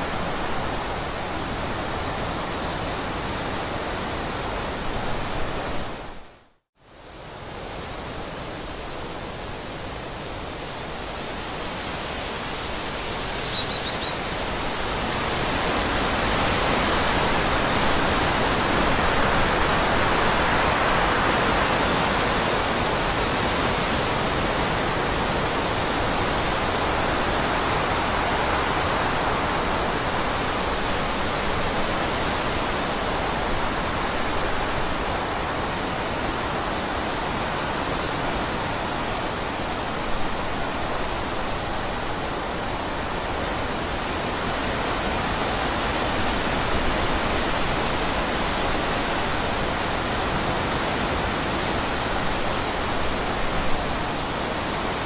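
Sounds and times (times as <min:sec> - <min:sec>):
wind through leafy trees: 0:00.0 - 0:55.0.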